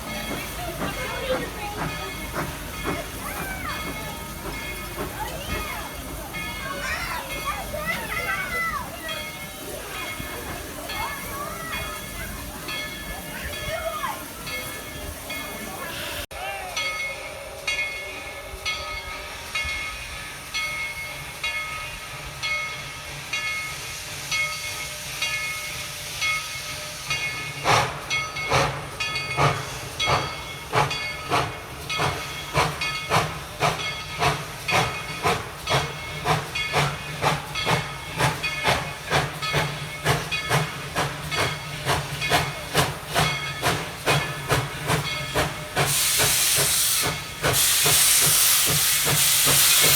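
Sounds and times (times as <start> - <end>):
steam hissing: 0.0 - 16.3, 17.2 - 49.9
steam locomotive exhaust chuffs: 0.0 - 16.3, 17.1 - 49.9
locomotive bell ringing: 0.0 - 47.4.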